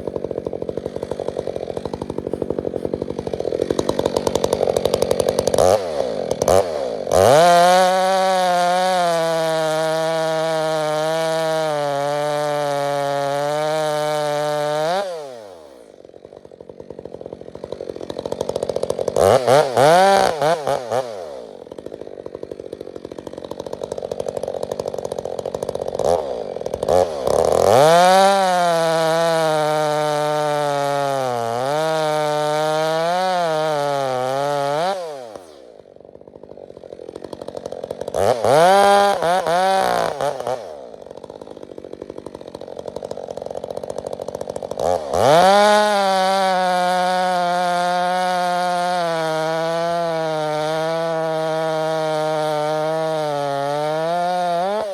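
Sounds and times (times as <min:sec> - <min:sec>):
chainsaw revving and idling: 0:00.0 - 0:54.9.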